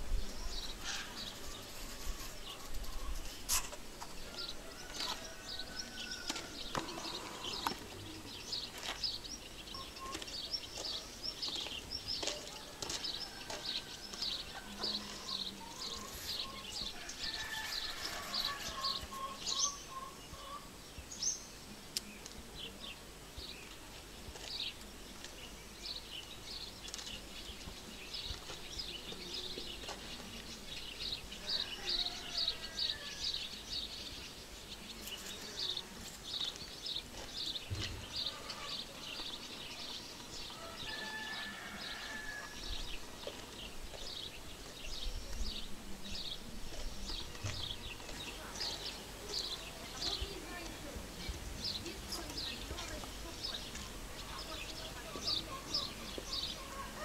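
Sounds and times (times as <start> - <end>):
faint background noise: 0.0 - 57.0
small birds chirping: 0.0 - 57.0.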